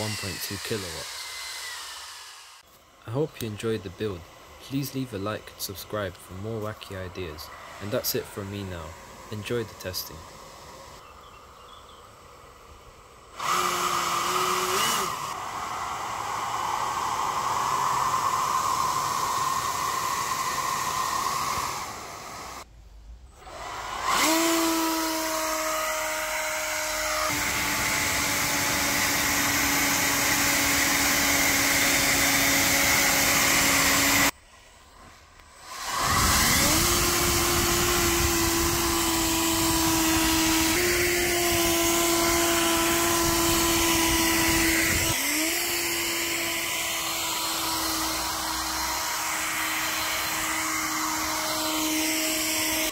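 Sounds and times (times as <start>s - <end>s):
ducted fan motor whining: 0.0s - 11.0s, 13.3s - 22.7s, 23.4s - 34.4s, 35.4s - 52.9s.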